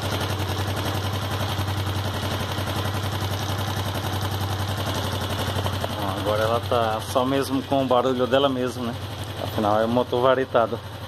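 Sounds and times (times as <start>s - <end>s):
four-stroke engine idling: 0.0s - 11.0s.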